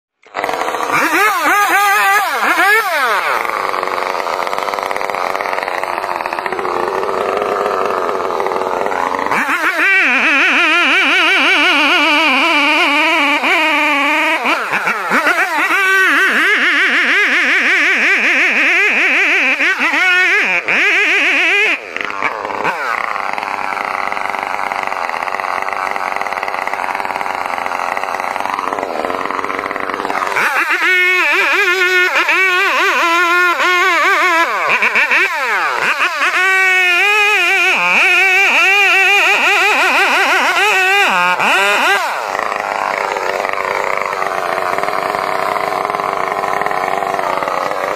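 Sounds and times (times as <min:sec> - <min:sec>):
chainsaw revving: 0:00.1 - 0:47.9.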